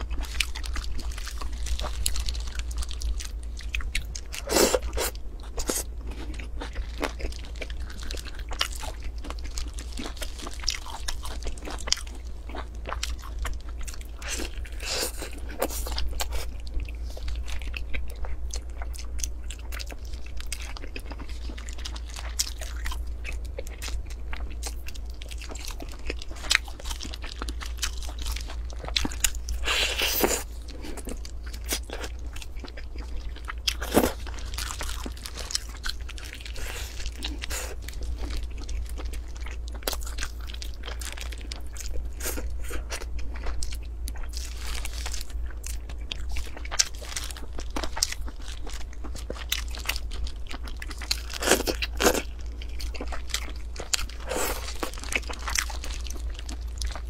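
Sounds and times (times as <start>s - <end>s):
crunching and chewing food: 0.0s - 57.0s
steady low hum: 0.0s - 57.0s.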